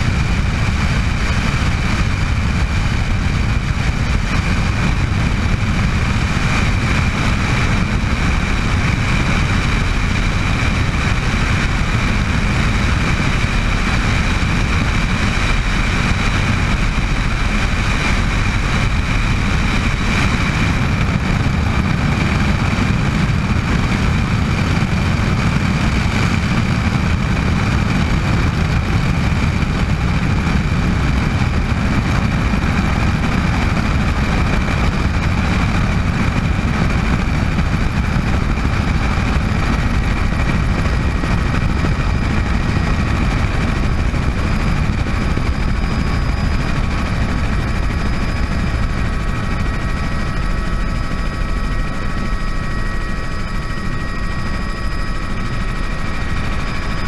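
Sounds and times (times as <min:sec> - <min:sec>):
helicopter turbine whine: 0:00.0 - 0:57.0
low rotor rumble: 0:00.0 - 0:57.0.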